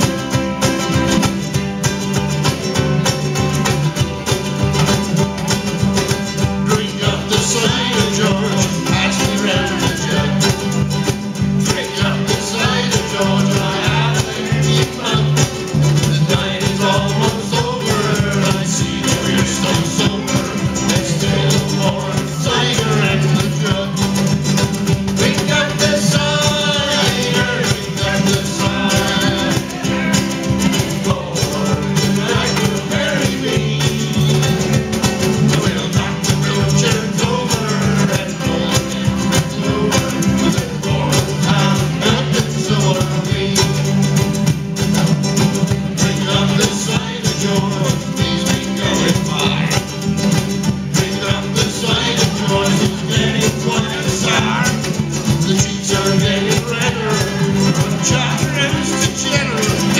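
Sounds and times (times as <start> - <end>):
group singing: 0.0 - 59.9
strummed ukuleles: 0.0 - 59.9.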